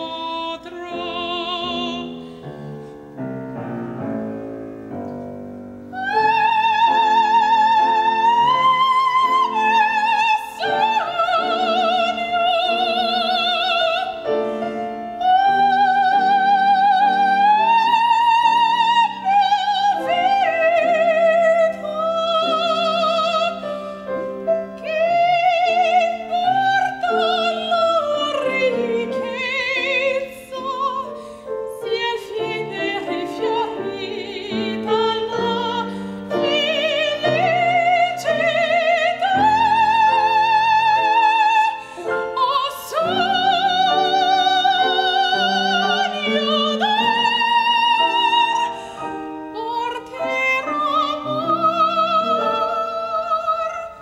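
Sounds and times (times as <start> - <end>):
woman singing operatically: 0.0 - 2.2, 5.9 - 14.4, 15.1 - 23.7, 24.7 - 54.0
grand piano accompaniment: 0.0 - 54.0.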